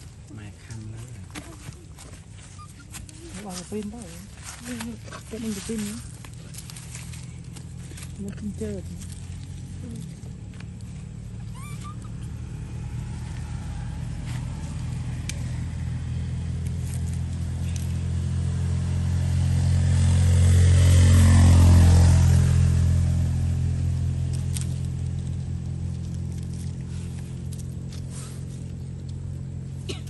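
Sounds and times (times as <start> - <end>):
vehicle engine passing by: 0.0 - 29.9.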